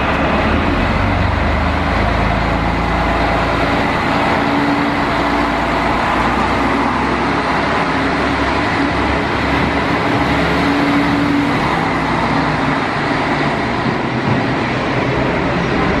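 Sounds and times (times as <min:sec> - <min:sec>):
diesel railcar engines running: 0:00.0 - 0:16.0
train wheels rolling on rails: 0:00.0 - 0:16.0.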